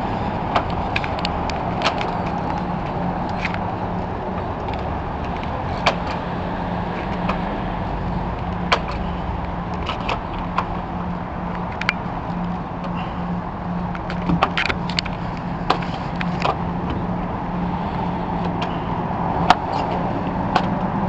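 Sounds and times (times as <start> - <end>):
constant low hum: 0.0 - 21.0
traffic noise: 0.0 - 21.0.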